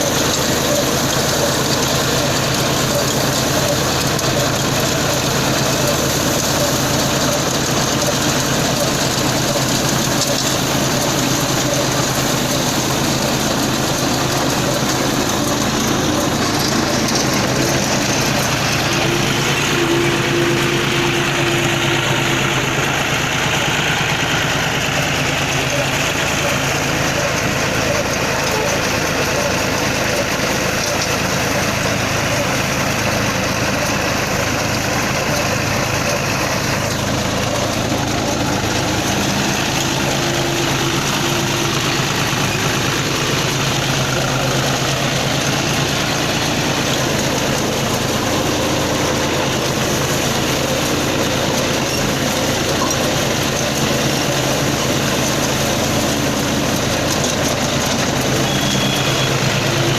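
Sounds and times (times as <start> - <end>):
baler machinery clattering: 0.0 - 59.9
tractor engine running: 0.0 - 59.9.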